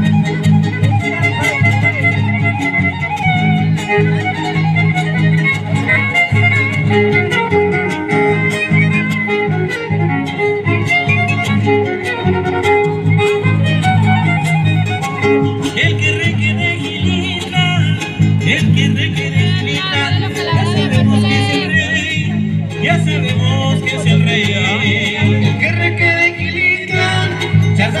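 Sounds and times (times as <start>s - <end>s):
strummed guitars: 0.0s - 28.0s
violin playing lively melody: 0.0s - 28.0s.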